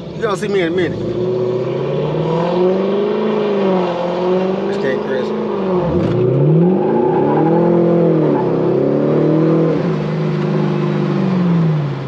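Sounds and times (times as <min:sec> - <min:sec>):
car engine accelerating hard: 0:00.2 - 0:12.0.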